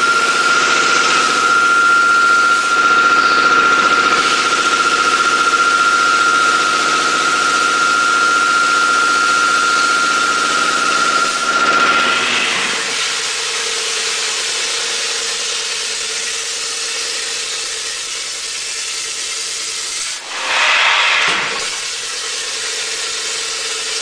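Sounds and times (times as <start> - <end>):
garlic peeling machine hissing: 0.0 - 24.0
machine high whine: 0.0 - 24.0.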